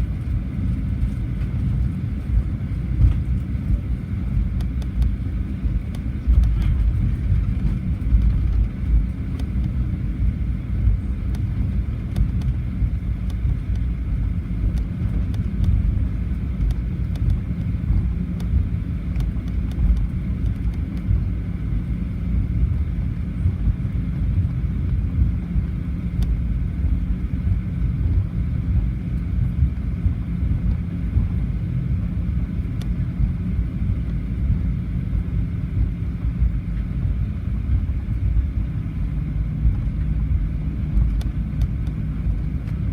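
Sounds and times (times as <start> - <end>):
aircraft cabin engine hum: 0.0 - 42.9.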